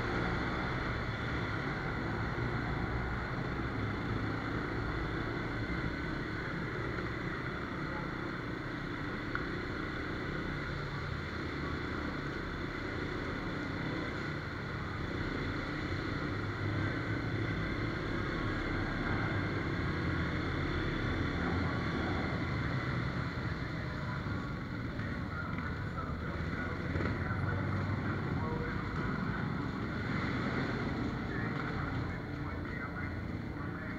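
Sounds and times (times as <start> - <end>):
off-road vehicle engine droning: 0.0 - 33.9.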